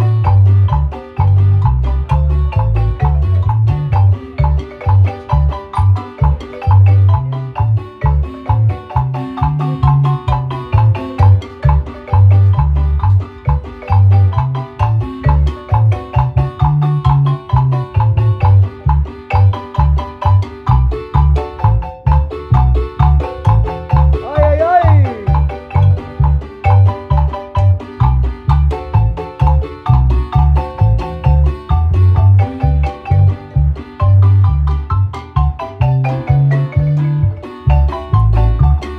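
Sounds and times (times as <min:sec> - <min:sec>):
deep pulsing bass notes: 0:00.0 - 0:38.9
marimba melody: 0:00.0 - 0:38.9.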